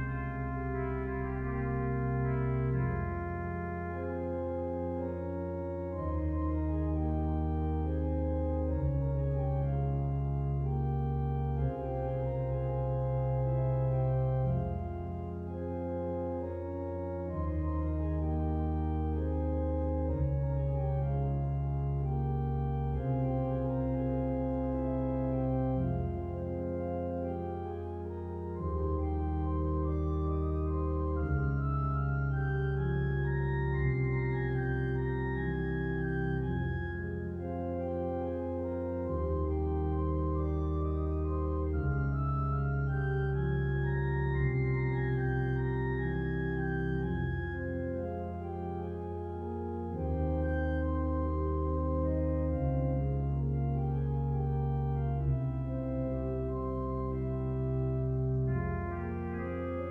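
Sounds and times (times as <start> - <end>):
organ playing sustained chords: 0.0 - 59.9.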